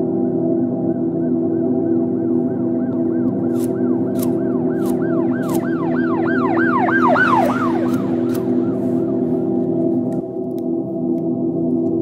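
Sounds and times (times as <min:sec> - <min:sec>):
low ambient drone: 0:00.0 - 0:12.0.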